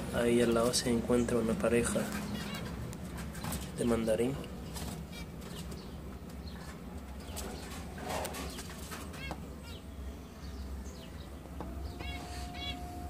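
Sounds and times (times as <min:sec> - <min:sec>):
finch chirps: 0:01.2 - 0:12.9.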